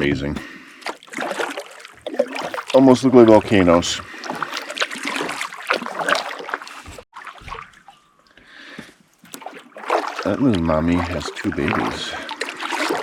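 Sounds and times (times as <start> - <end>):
water splashing around canoe: 0.0 - 13.0.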